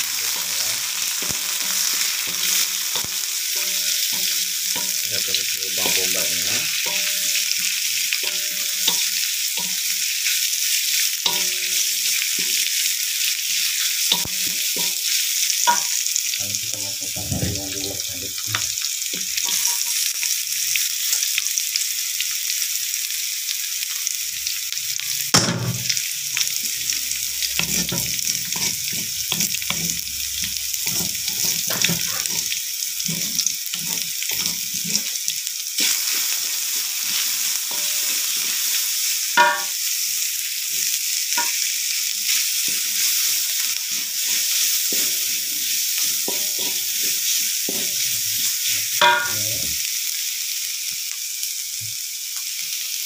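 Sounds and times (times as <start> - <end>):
food sizzling in a metal wok: 0.0 - 53.0.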